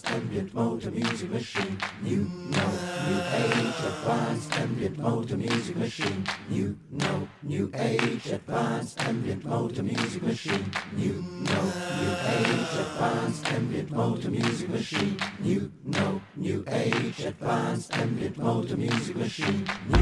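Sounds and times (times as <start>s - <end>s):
choir singing a cappella: 0.0s - 20.0s.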